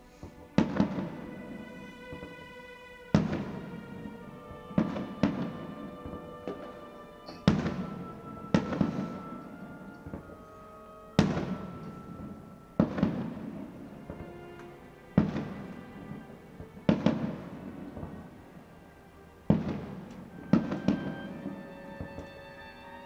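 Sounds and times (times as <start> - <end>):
firework shells bursting: 0.0 - 18.4, 19.4 - 23.0.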